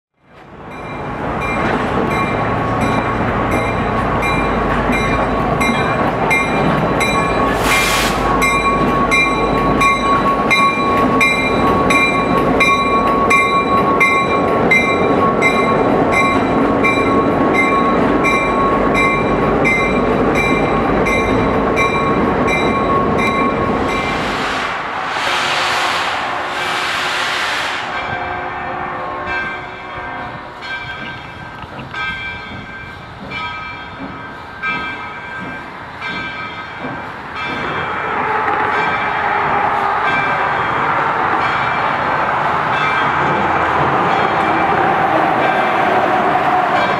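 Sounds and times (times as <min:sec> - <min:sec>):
train rolling past: 0:00.2 - 0:46.9
locomotive bell ringing: 0:00.7 - 0:24.2, 0:27.9 - 0:43.4, 0:46.6 - 0:46.9.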